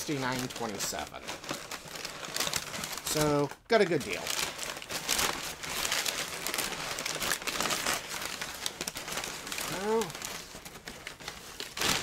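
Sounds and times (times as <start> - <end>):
packing paper crinkling: 0.0 - 12.0.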